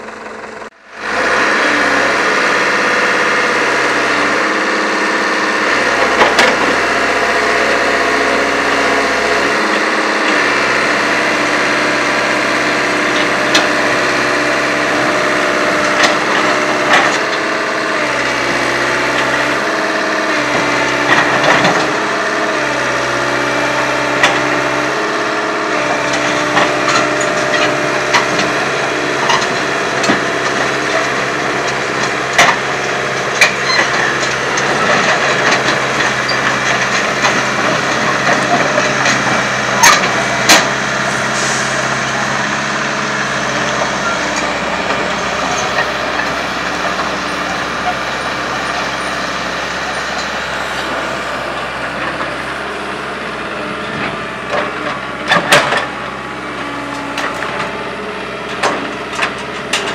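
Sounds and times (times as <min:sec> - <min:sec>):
excavator diesel engine running: 0:00.0 - 0:59.9
steel tracks clanking and creaking: 0:00.0 - 0:59.9.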